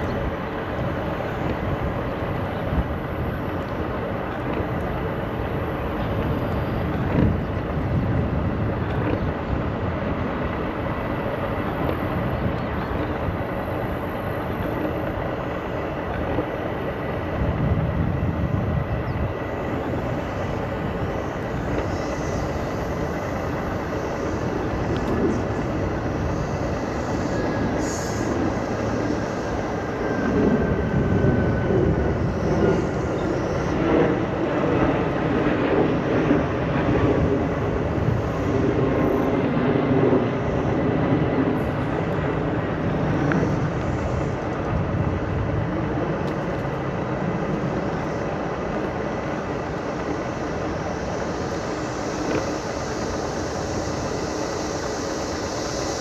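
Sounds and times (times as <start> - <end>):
scooter tyres rumbling on trail: 0.0 - 56.0
wind on microphone: 0.0 - 56.0.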